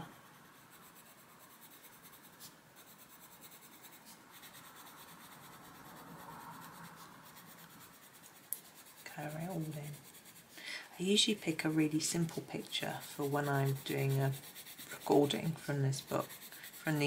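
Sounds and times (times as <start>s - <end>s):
coloured pencil scratching paper: 0.0s - 17.0s.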